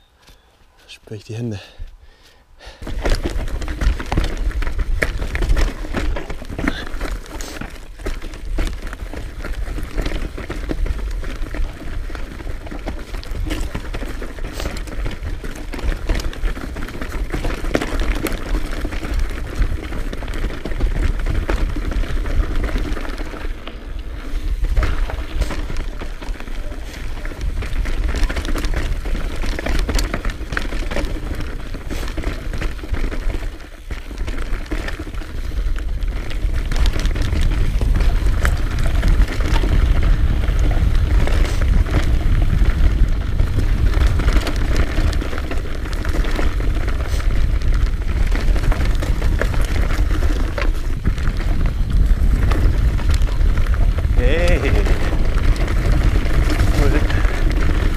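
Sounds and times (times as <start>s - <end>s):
bike tyres crunching over stones: 1.2s - 57.9s
bike clicks and knocks: 2.8s - 57.9s.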